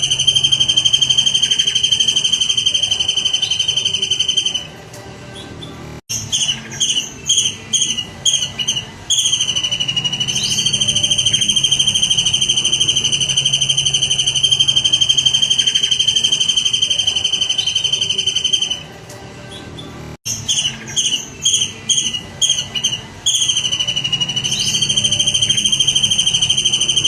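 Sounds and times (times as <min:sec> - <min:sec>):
songbird whistling and trilling: 0:00.0 - 0:18.9, 0:19.5 - 0:27.0.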